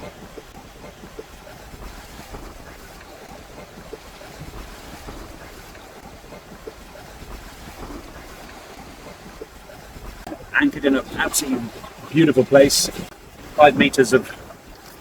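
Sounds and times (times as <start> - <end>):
water rushing past hulls: 0.0 - 15.0.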